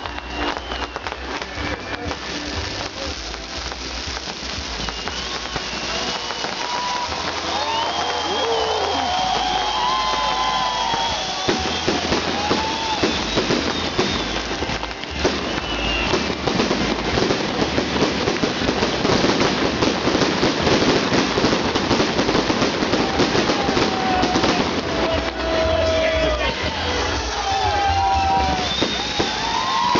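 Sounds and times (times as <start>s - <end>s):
fireworks crackling: 0.0s - 29.9s
whistling fireworks: 0.0s - 29.9s.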